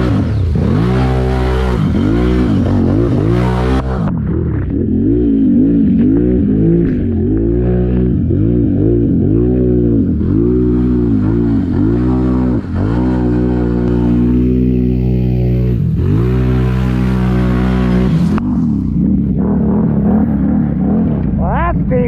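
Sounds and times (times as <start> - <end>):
muddy water splashing: 0.0 - 21.9
atv engine revving: 0.0 - 22.0.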